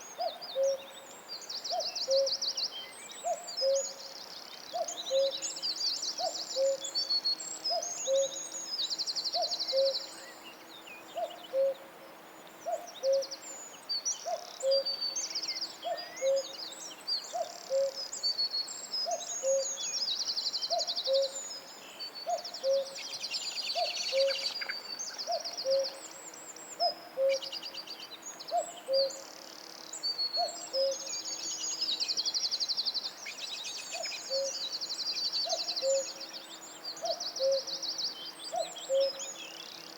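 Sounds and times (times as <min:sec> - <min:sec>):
high buzzy bird trills and chirps: 0:03.3 - 0:39.9.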